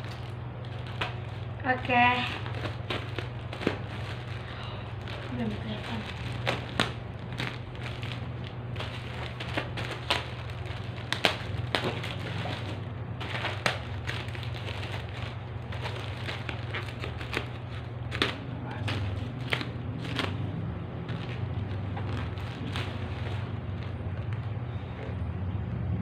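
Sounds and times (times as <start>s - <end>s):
plastic wrapping crackling: 0.0s - 25.1s
steady low hum: 0.0s - 26.0s.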